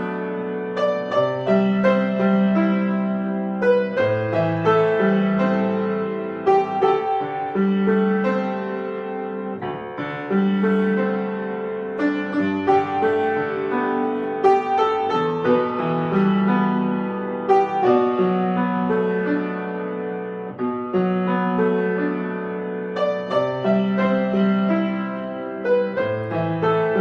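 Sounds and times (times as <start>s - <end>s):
slow gentle piano piece: 0.0s - 27.0s.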